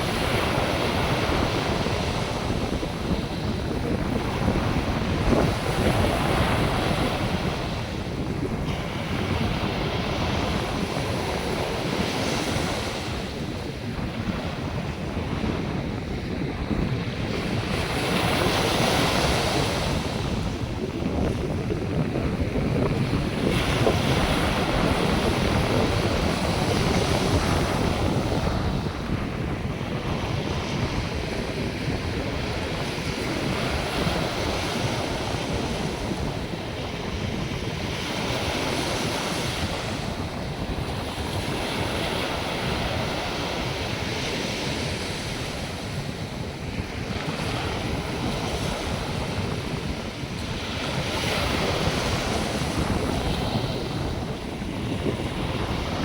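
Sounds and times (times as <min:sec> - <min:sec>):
waves breaking on beach: 0:00.0 - 0:56.0
wind rumble on microphone: 0:00.0 - 0:56.0.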